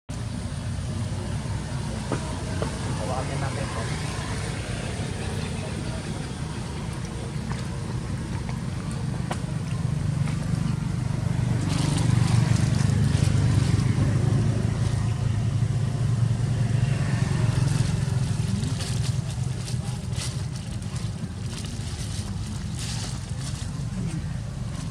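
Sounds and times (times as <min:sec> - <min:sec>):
low engine hum: 0:00.1 - 0:24.9.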